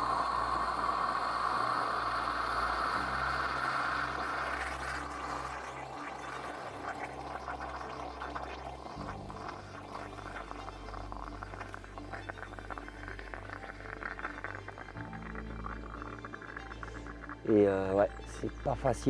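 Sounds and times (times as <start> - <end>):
coffee gurgling and sputtering: 0.0 - 19.0
moka pot hissing: 0.0 - 19.0.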